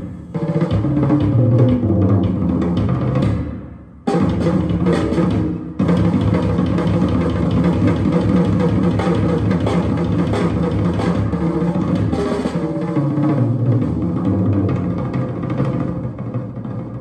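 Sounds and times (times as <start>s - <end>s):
drum-heavy instrumental music: 0.0s - 15.9s.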